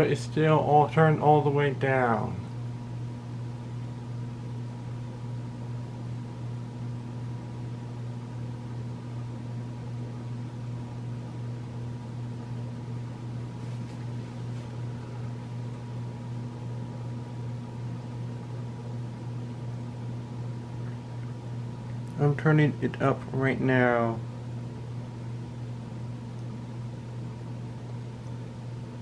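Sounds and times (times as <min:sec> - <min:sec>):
ceiling fan humming and buzzing: 0:00.0 - 0:29.0.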